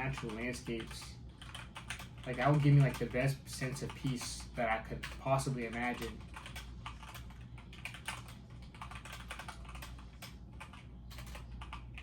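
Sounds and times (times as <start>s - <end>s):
computer keyboard typing: 0.0s - 12.0s
steady low hum: 0.0s - 12.0s.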